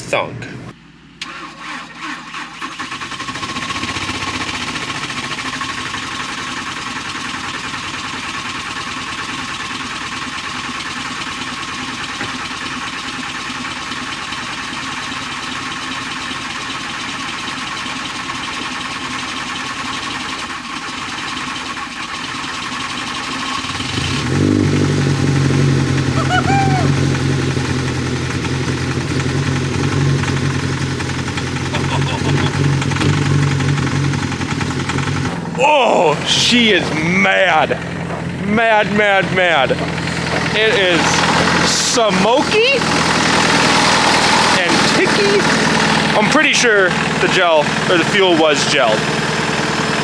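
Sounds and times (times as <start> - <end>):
diesel engine running roughly: 0.0 - 50.0
car engine cranking on starter: 0.4 - 50.0.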